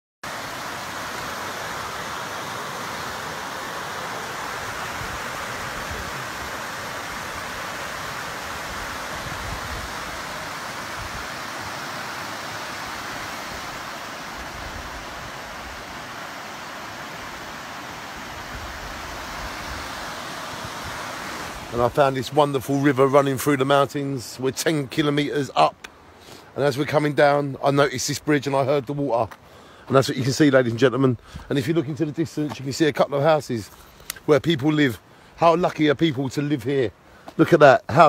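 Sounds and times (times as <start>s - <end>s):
river rushing over rocks: 0.2s - 30.7s.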